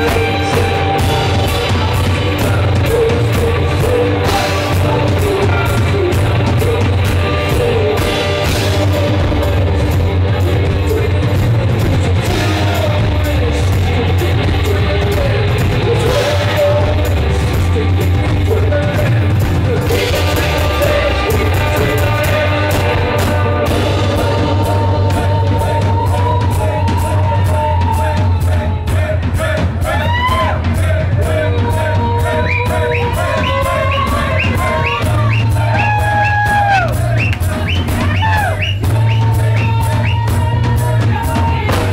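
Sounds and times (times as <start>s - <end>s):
drums: 0.0s - 41.9s
live band playing: 0.0s - 41.9s
person singing: 0.0s - 41.9s.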